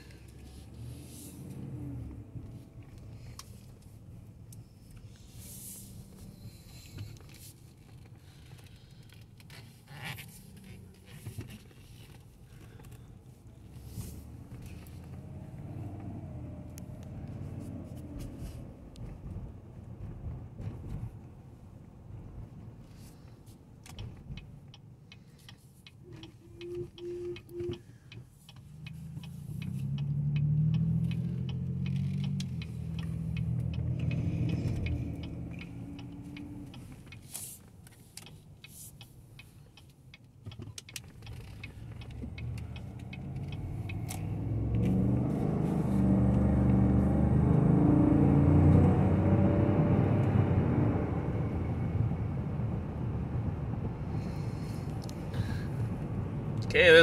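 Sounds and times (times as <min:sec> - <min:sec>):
car engine inside cabin: 0:00.0 - 0:57.0
road noise: 0:00.0 - 0:57.0.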